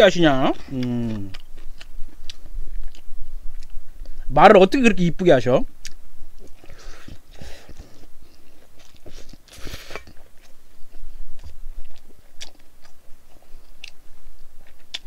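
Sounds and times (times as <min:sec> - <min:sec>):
person chewing food: 0:00.5 - 0:04.3, 0:05.8 - 0:15.0.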